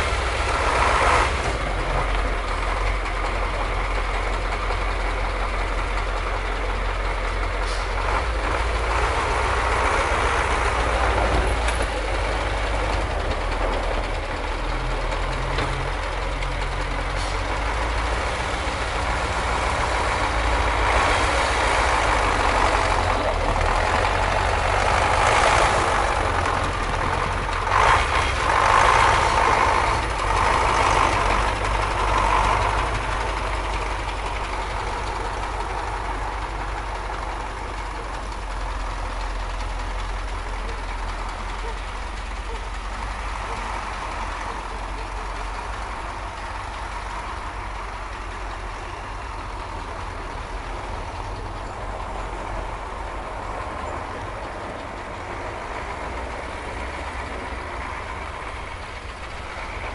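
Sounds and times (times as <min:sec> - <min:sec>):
garbage truck engine idling: 0:00.0 - 0:59.9.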